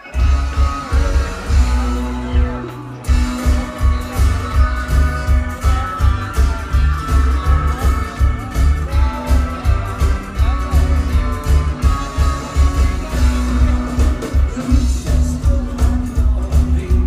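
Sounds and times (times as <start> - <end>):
rockabilly band playing live: 0.0 - 17.0
upright bass line: 0.0 - 17.0.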